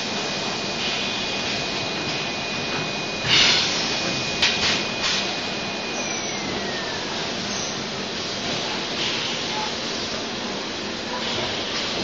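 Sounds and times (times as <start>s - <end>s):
machine whirring with high whine: 0.0s - 12.0s.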